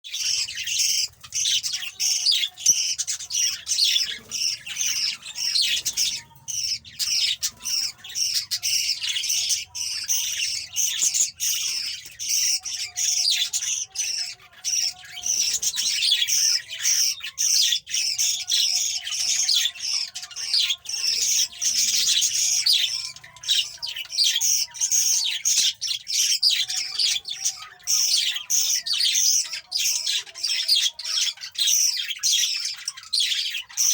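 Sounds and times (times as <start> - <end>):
budgerigar chicks squawking: 0.1 - 33.9.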